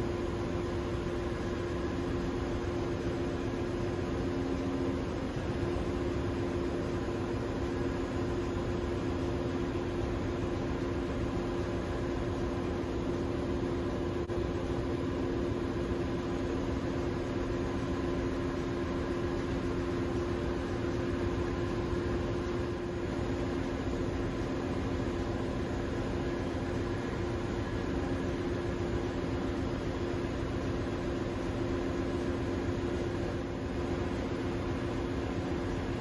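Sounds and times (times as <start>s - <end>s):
engine-room machinery drone: 0.0s - 36.0s
ventilation hiss: 0.0s - 36.0s.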